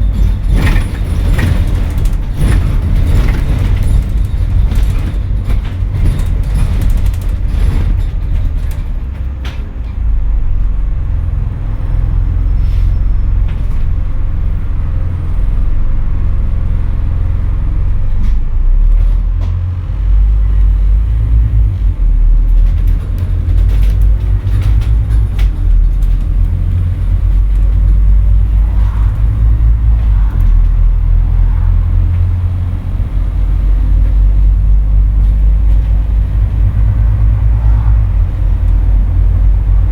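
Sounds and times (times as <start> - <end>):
bus engine droning: 0.0 - 39.9
rattles: 0.0 - 39.9.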